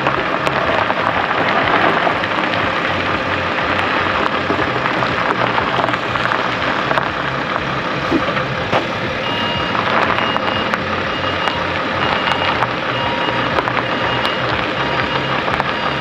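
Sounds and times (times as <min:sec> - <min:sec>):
vehicle engine running: 0:00.0 - 0:16.0
reversing beeper: 0:01.7 - 0:06.2, 0:06.9 - 0:16.0.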